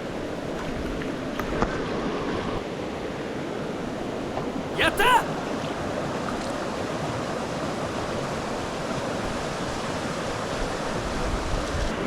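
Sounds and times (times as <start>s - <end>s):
mountain stream rushing: 1.2s - 12.0s.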